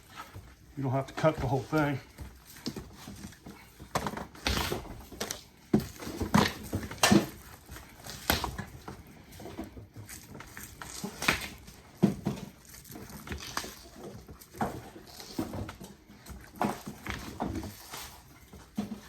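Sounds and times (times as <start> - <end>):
plastic sheathing crackling and ripping: 0.0 - 19.0.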